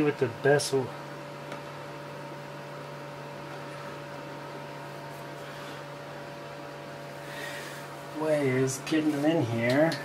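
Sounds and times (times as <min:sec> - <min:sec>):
steady tonal hum: 0:00.0 - 0:10.0.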